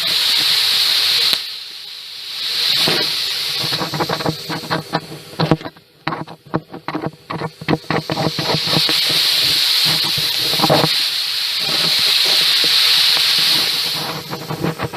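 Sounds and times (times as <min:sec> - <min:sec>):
air hissing from a leak: 0:00.0 - 0:14.9
hose scraping and knocking on metal: 0:02.8 - 0:14.9.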